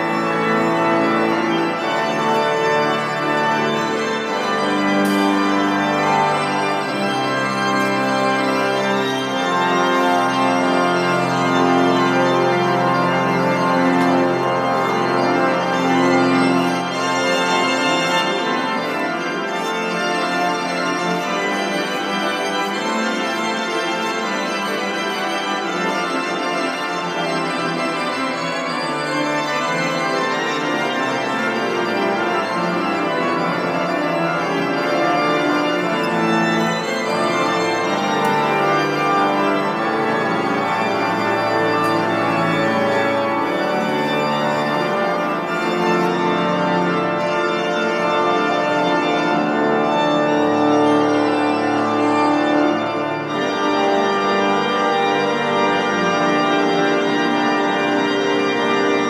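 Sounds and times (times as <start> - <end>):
church pipe organ playing: 0.0 - 59.0.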